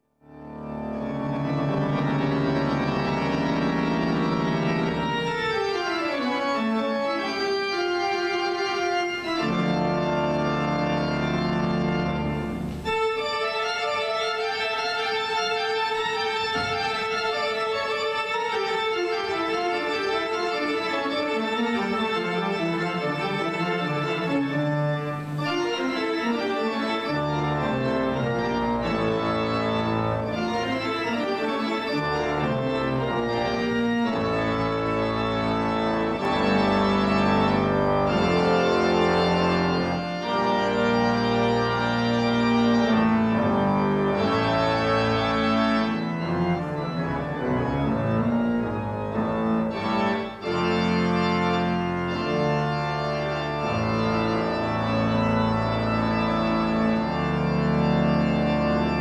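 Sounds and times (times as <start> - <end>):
organ chords: 0.0 - 59.0.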